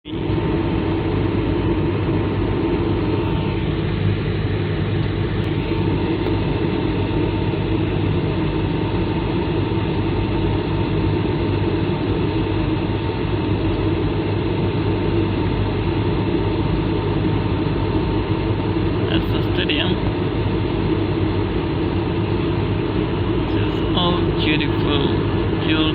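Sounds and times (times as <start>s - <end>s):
aircraft cabin engine roar: 0.0s - 25.9s
faint steady whine: 0.1s - 25.9s.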